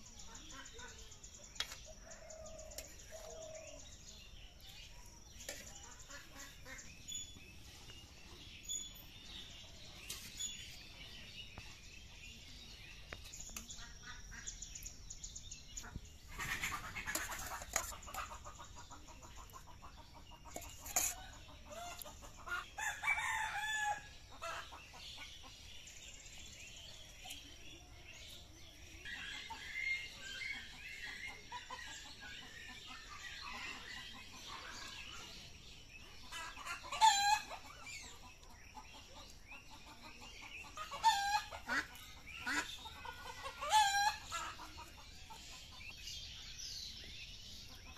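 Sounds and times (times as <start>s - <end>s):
chickens clucking: 0.0s - 15.0s, 15.7s - 47.9s.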